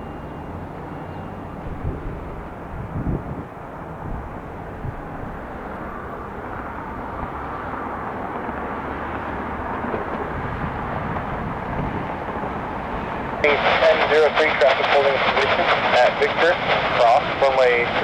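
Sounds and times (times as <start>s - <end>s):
jet engines roaring at takeoff: 0.0s - 18.0s.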